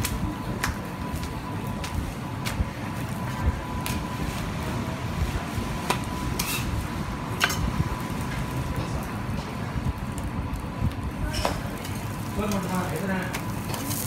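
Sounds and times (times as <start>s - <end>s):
kitchen background rumble: 0.0s - 14.0s.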